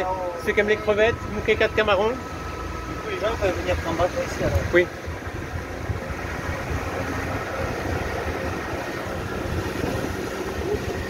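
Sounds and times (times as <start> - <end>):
boat motor running: 0.0 - 11.0
water rushing along hull: 0.0 - 11.0.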